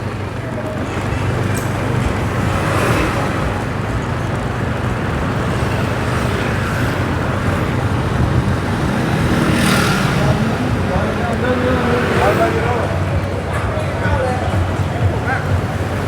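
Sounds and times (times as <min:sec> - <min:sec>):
motorbike engine humming: 0:00.0 - 0:16.0
street traffic: 0:00.0 - 0:16.0.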